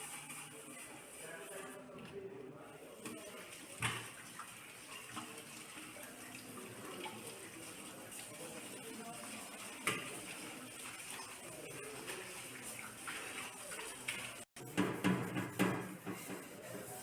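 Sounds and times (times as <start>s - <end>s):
tap water running into sink: 3.0s - 17.0s.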